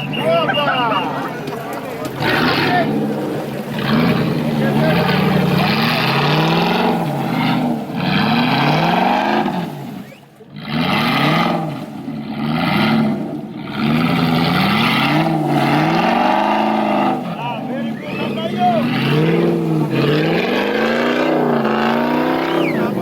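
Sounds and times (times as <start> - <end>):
engine revving hard: 2.0 - 23.0.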